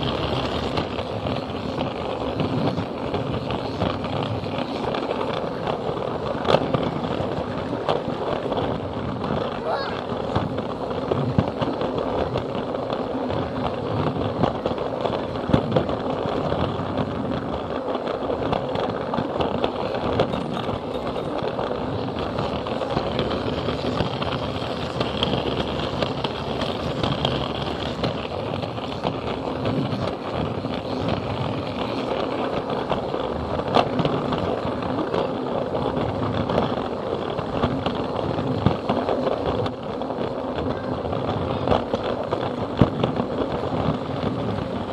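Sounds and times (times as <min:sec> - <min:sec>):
toy train rattling rumble: 0:00.0 - 0:44.9.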